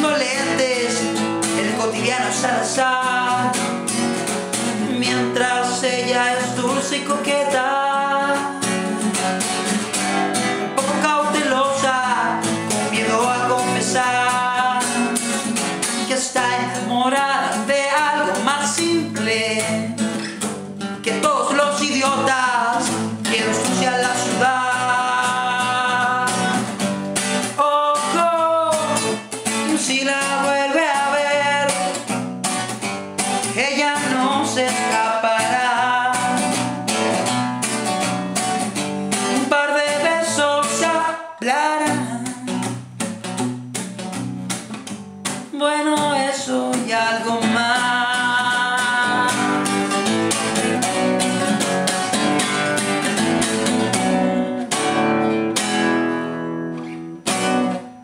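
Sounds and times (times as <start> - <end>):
man singing: 0.0 - 9.7, 10.4 - 32.3, 33.2 - 37.4, 39.1 - 42.8, 45.3 - 54.8
classical guitar strummed: 0.0 - 58.0.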